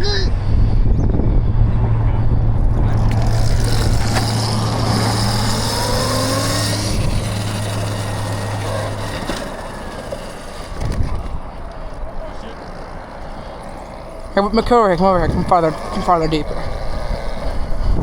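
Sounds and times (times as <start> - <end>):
low hum: 0.3 - 18.0
vehicle passing on road: 0.3 - 18.0.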